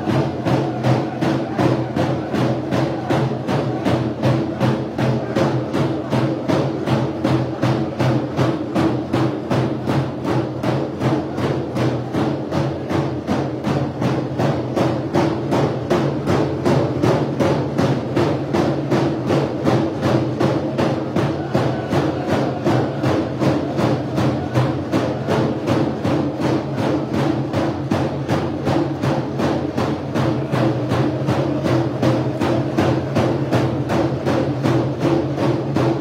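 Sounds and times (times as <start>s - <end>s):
frame drums beating fast: 0.0s - 36.0s.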